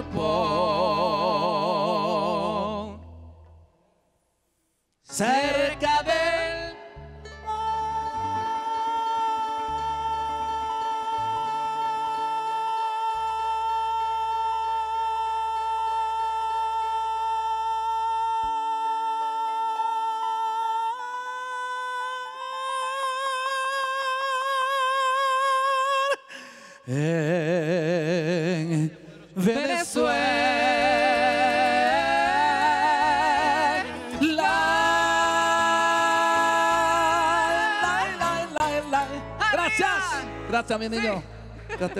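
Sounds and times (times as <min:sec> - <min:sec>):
man singing sustained notes: 0:00.0 - 0:03.1, 0:05.1 - 0:41.4
second man singing: 0:00.0 - 0:03.1, 0:07.6 - 0:41.9.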